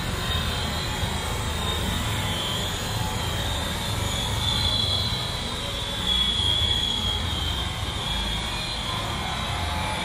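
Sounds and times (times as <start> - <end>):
high thin wheel squeal: 0.0 - 10.0
train coaches rumbling on rails: 0.0 - 10.0.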